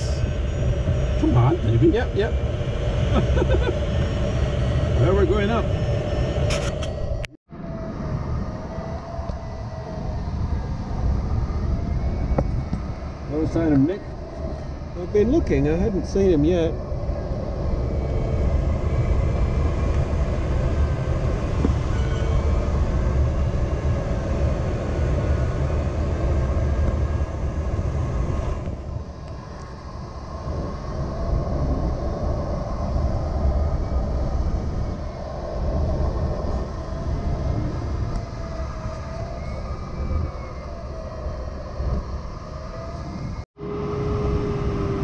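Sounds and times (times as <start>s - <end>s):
wavering electronic variometer tone: 0.0s - 45.0s.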